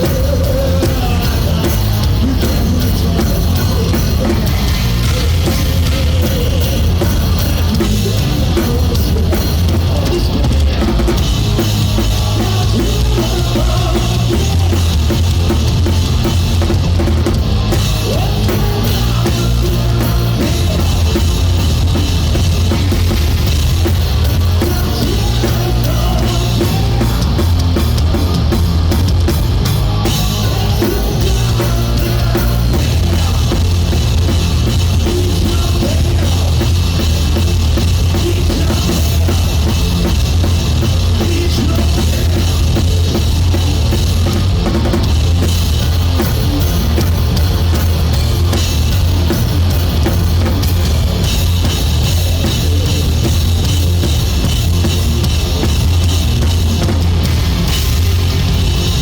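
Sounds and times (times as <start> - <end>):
rock band playing loudly: 0.0 - 59.0.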